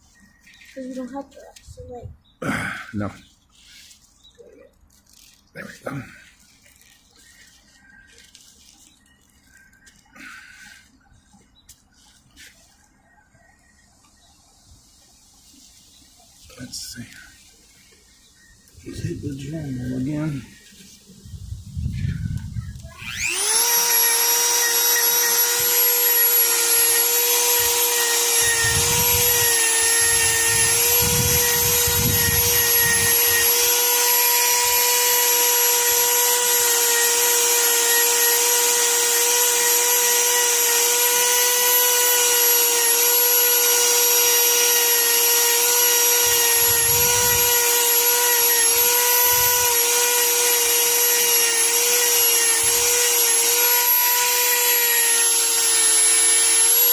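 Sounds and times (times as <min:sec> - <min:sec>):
rotary tool whining: 0:03.1 - 0:56.9.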